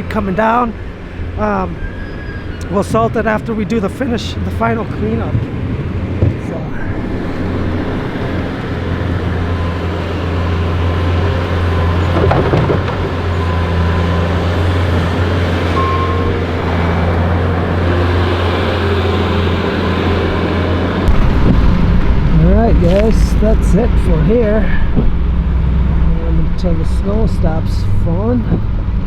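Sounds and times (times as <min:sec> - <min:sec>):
plow rumbling: 0:00.0 - 0:29.0
truck engine droning: 0:00.0 - 0:29.0.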